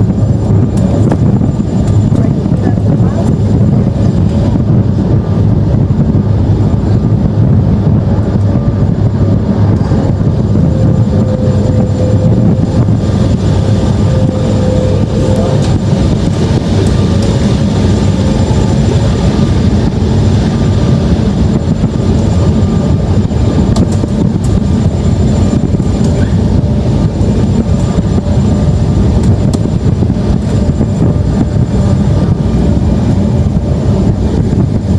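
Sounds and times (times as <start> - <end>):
faint steady whine: 0.0 - 34.9
rumble of engines and airflow: 0.0 - 34.9.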